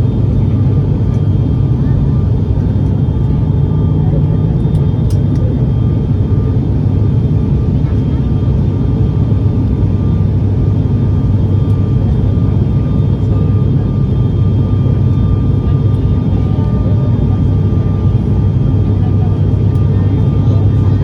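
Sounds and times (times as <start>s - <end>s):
propeller and engine drone: 0.0s - 21.0s.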